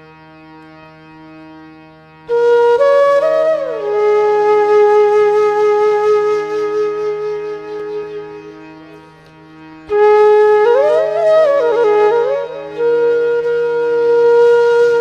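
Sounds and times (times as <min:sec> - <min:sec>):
flute music: 0:00.0 - 0:15.0
steady drone: 0:00.0 - 0:15.0.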